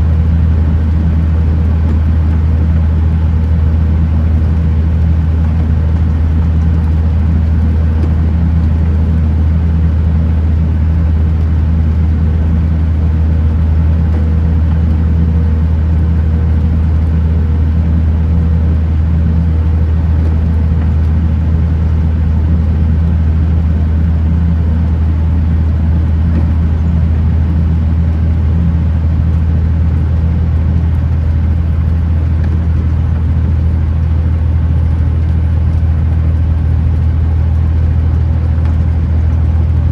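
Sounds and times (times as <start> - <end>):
truck diesel engine cruising: 0.0 - 39.9.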